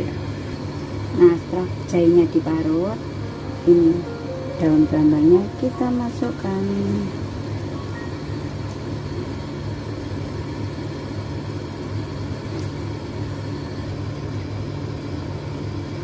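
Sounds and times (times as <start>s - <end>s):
appliance electrical hum: 0.0s - 16.0s.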